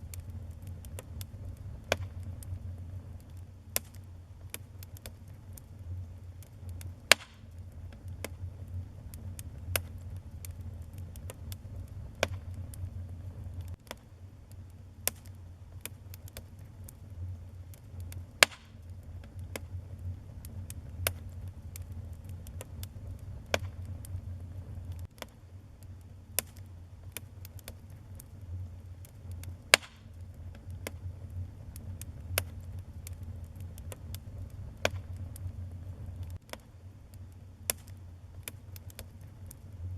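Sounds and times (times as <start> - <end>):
steady low rumble: 0.0 - 39.9
wood fire crackling: 0.0 - 39.9.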